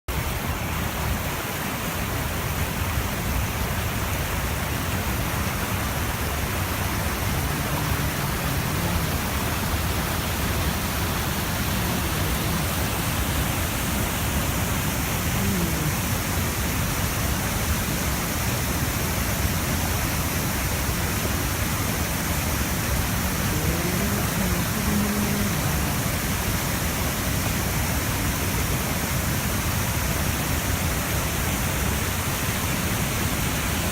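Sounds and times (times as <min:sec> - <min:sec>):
mountain stream rushing: 0:00.1 - 0:33.9.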